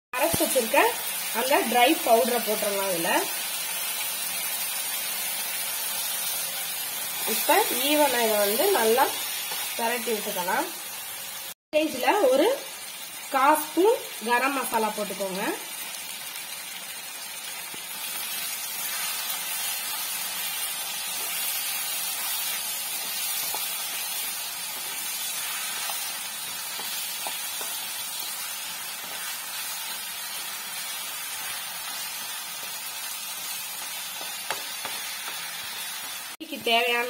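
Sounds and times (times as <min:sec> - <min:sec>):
chicken sizzling in a pan: 0:00.1 - 0:37.0.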